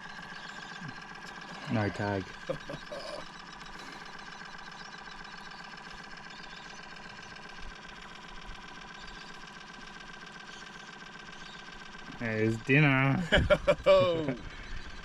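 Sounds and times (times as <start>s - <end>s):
boat motor whining: 0.0s - 15.0s.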